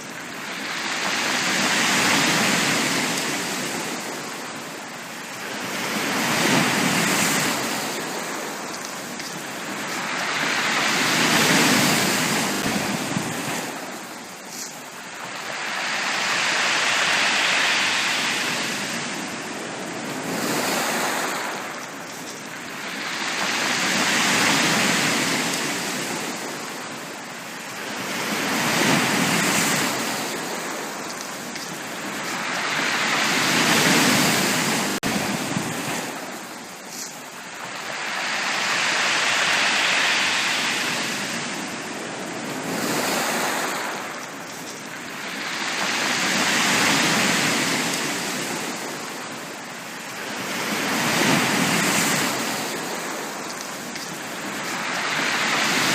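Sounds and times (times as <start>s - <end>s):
sea waves breaking on beach: 0.0s - 55.9s.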